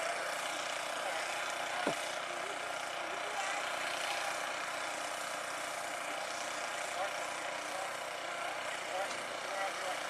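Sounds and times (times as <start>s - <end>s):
snow blower engine drone: 0.0s - 10.0s.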